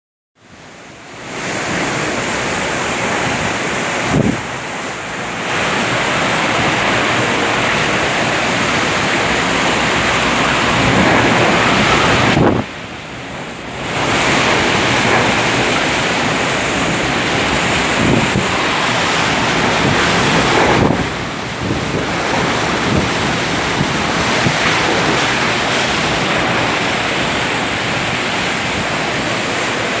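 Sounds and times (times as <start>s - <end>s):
floodwater rushing and churning: 0.4s - 30.0s
wind buffeting microphone: 1.4s - 30.0s.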